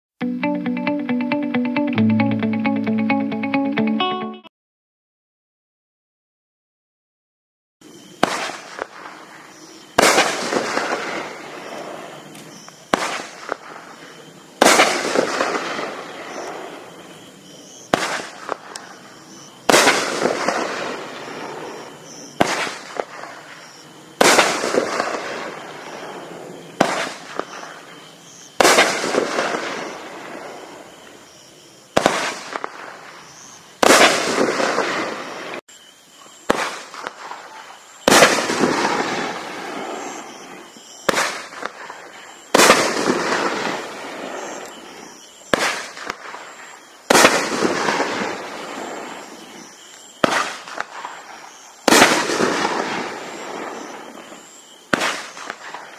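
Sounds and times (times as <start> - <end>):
fireworks sharp bangs: 7.8 - 31.0, 31.9 - 35.6, 36.4 - 55.9.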